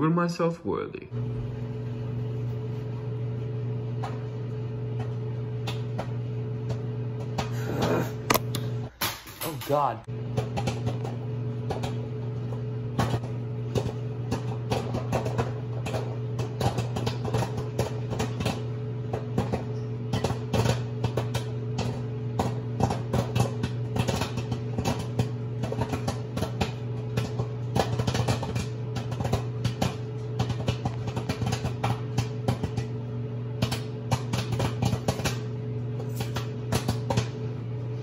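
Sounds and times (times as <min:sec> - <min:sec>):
microwave oven humming: 0:01.0 - 0:38.0
popcorn popping: 0:03.7 - 0:37.6.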